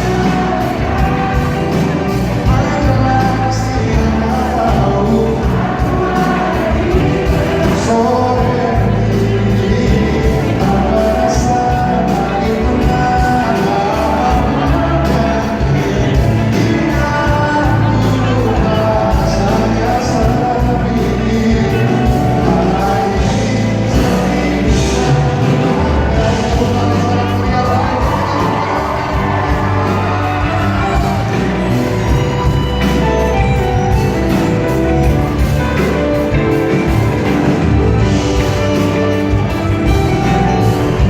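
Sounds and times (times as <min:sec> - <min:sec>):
band playing pop ballad: 0:00.0 - 0:41.0
crowd singing along: 0:00.0 - 0:41.0
male lead singer: 0:00.0 - 0:41.0.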